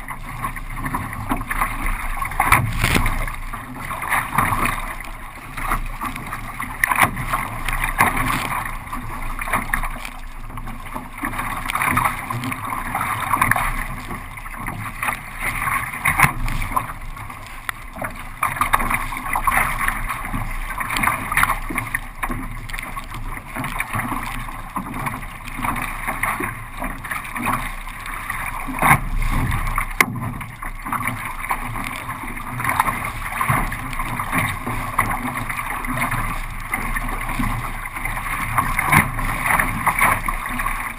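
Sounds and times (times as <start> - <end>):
water splashing against a kayak: 0.0 - 40.9.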